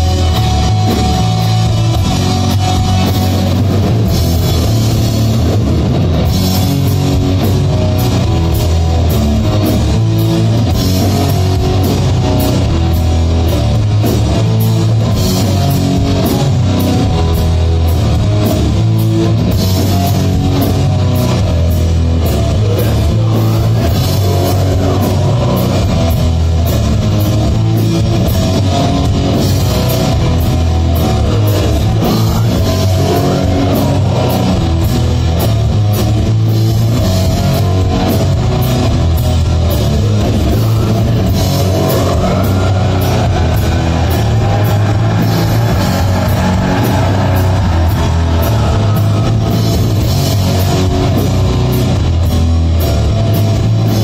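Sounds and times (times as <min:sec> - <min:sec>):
loud metal band playing: 0:00.0 - 0:54.0.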